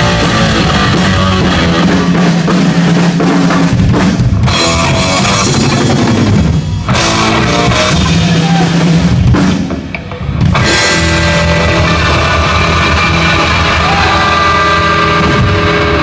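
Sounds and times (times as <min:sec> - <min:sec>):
heavy metal band playing live: 0:00.0 - 0:16.0.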